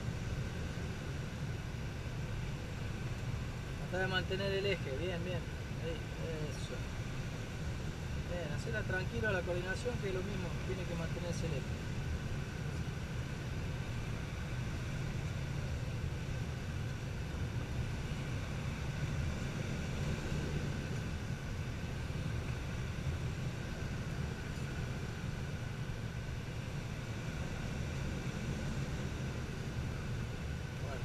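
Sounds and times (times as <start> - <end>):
airflow rushing around canopy: 0.0 - 31.0.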